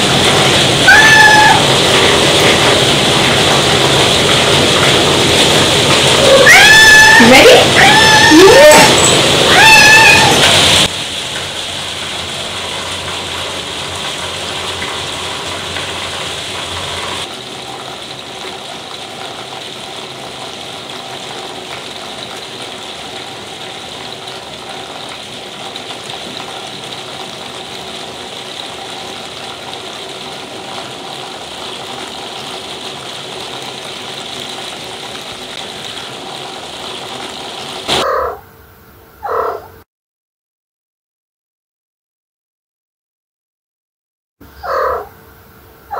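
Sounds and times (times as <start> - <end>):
rain hissing: 0.0 - 38.0.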